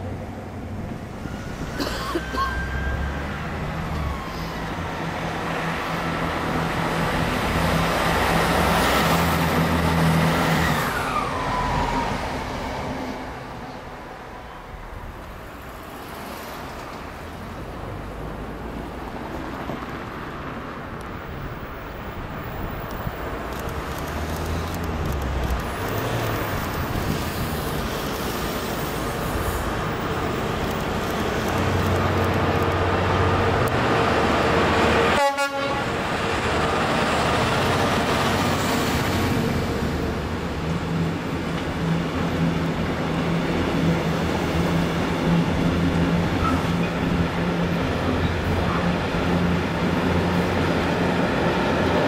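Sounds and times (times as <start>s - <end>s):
diesel locomotive approaching: 0.0s - 52.0s
diesel train passing: 0.0s - 52.0s
road traffic: 0.0s - 52.0s.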